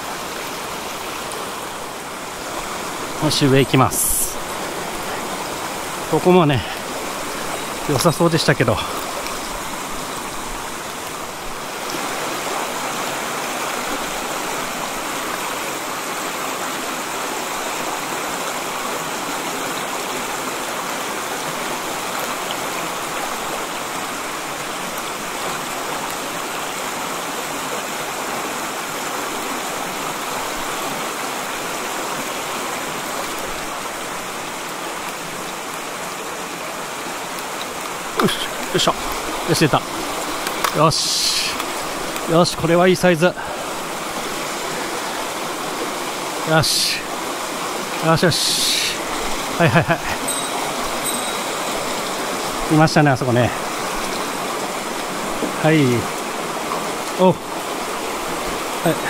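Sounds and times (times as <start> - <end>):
mountain stream flowing: 0.0 - 59.0.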